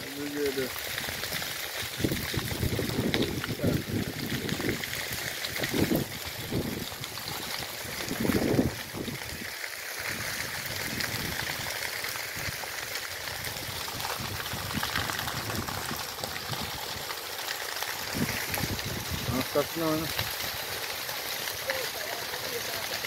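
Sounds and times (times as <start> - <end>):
grass fire crackling: 0.0 - 23.0.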